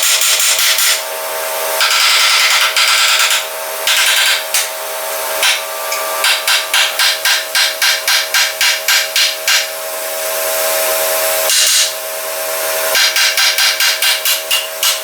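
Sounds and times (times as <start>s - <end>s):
welder and compressor hum: 0.0s - 15.0s.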